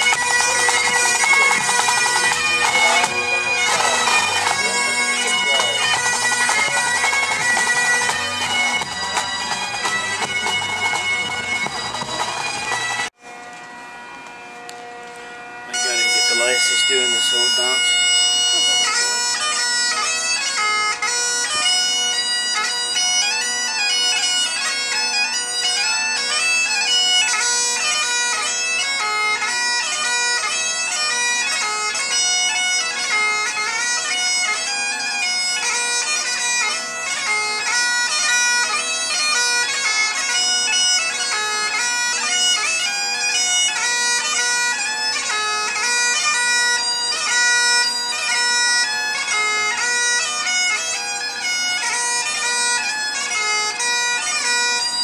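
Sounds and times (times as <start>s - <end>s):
bagpipes playing a dance tune: 0.0s - 55.0s.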